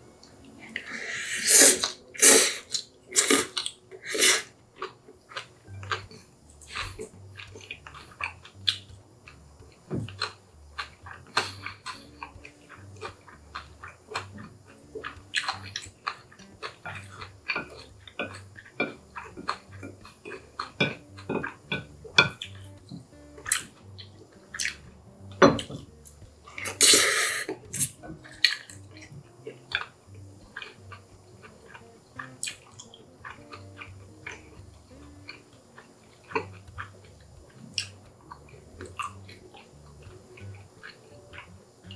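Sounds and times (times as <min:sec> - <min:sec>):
chewing and slurping noodles: 0:00.2 - 0:25.0, 0:25.6 - 0:41.9.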